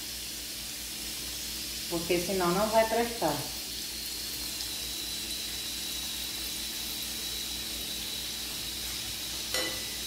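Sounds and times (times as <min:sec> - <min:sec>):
oil sizzling in a pan: 0:00.0 - 0:10.0
pressure cooker hissing steam: 0:00.0 - 0:10.0.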